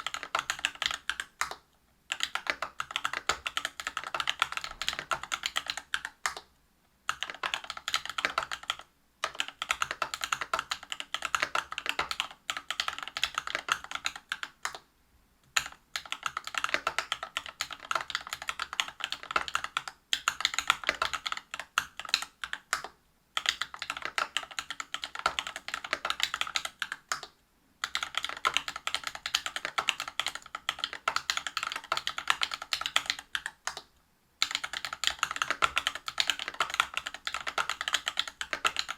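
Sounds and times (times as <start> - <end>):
typing on mechanical keyboard: 0.0 - 6.5, 7.1 - 14.8, 15.5 - 38.9.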